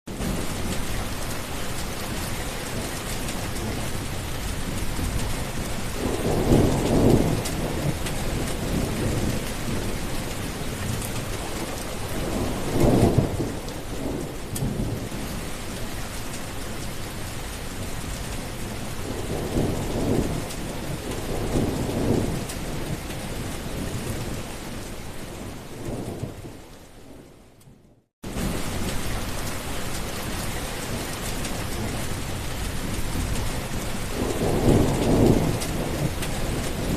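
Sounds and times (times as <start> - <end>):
thunder rumbling: 0.1 - 27.4, 28.2 - 36.9
heavy rain: 0.1 - 27.6, 28.2 - 36.9.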